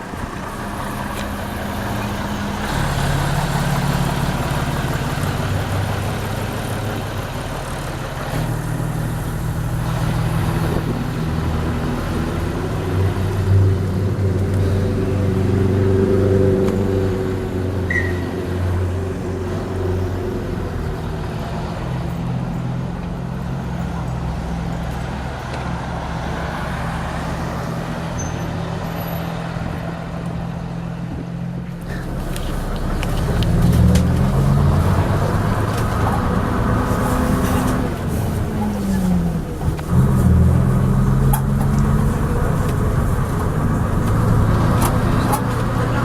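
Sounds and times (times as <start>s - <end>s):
bus diesel engine running: 0.0s - 46.0s.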